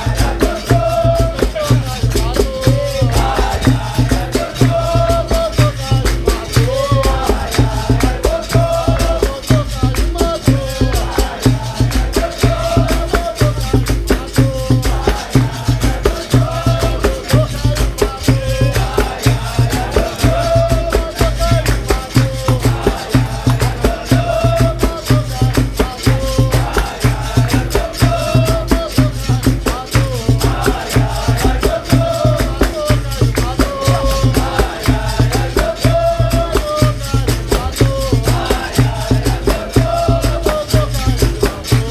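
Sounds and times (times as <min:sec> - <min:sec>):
hand drum beat: 0:00.0 - 0:41.9
rattling percussion: 0:00.0 - 0:41.9.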